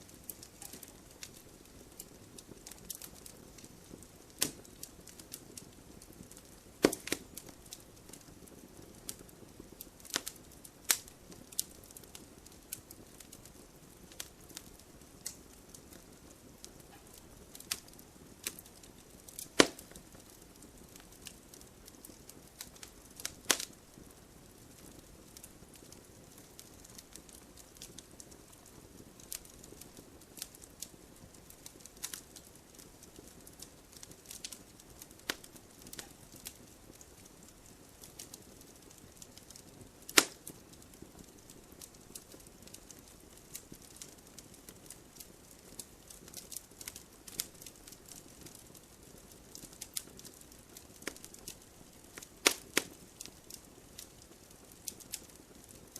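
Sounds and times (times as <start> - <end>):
faint steady hiss: 0.0 - 55.9
logs crackling in a stove: 0.0 - 55.9.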